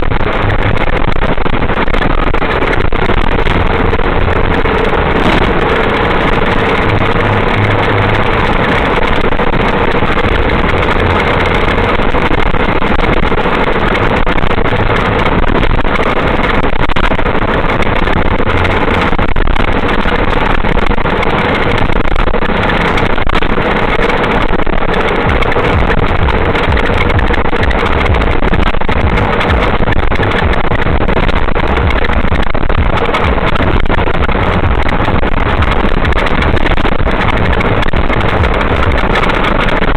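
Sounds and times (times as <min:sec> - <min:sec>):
road noise: 0:00.0 - 0:39.9
vehicle engine rumble: 0:00.0 - 0:39.9.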